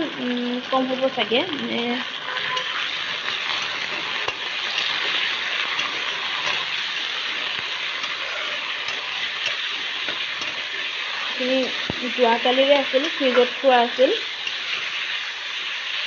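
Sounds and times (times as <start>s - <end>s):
chicken sizzling in hot oil: 0.0s - 16.0s
metal spatula scraping a pan: 1.6s - 15.4s.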